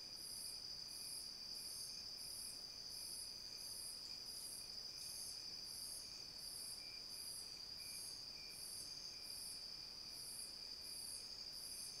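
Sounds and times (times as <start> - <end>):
insect chirping: 0.2 - 12.0.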